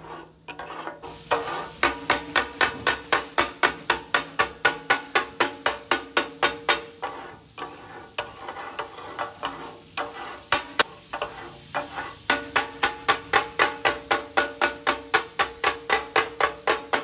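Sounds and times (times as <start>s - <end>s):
metal spatulas clanging on griddle: 0.0s - 17.0s
spatula scraping: 0.0s - 17.0s.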